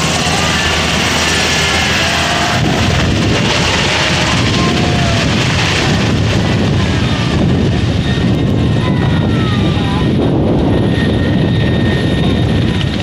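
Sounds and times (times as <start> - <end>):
helicopter rotor beat: 0.0 - 13.0
turbine engines whine: 0.0 - 13.0.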